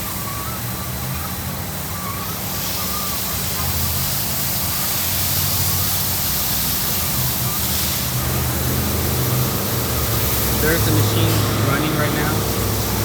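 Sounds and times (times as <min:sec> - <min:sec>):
low machinery hum: 0:00.0 - 0:13.0
water spray rushing: 0:00.0 - 0:13.0.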